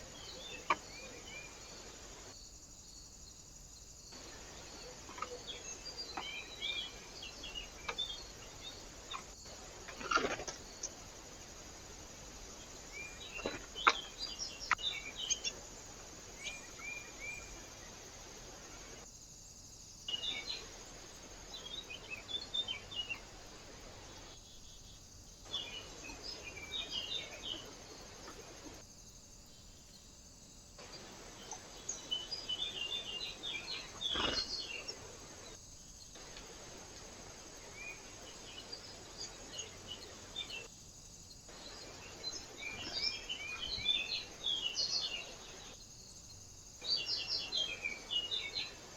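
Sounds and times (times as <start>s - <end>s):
small birds chirping: 0.0s - 48.9s
steady background hiss: 0.0s - 48.9s.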